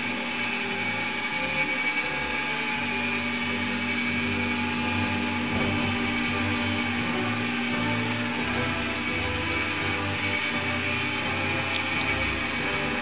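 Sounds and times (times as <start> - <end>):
machinery hum and whine: 0.0 - 13.0.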